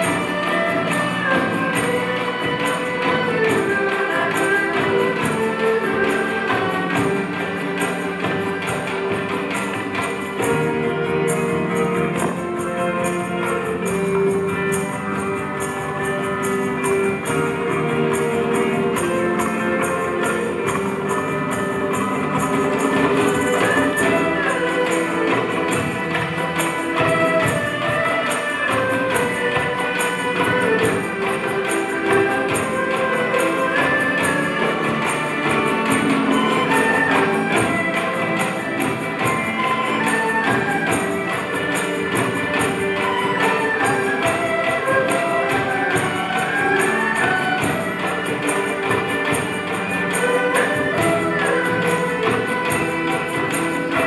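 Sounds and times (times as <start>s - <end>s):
bamboo flute: 0.0s - 54.0s
percussion beat: 0.0s - 54.0s
plucked and bowed strings: 0.0s - 54.0s.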